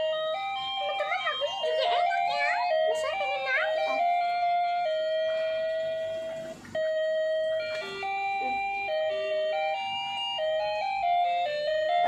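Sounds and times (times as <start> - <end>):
toy electronic beeping jingle: 0.0 - 6.2, 6.8 - 12.0.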